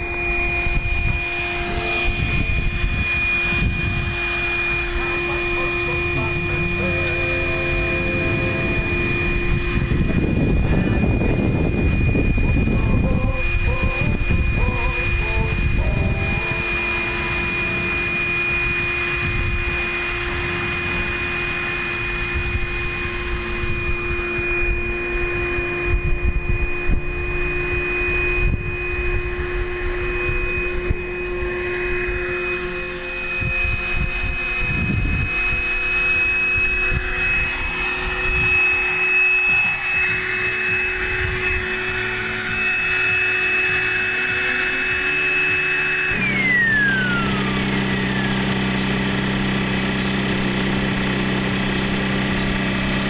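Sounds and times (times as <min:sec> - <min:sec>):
electric air pump whining: 0:00.0 - 0:53.0.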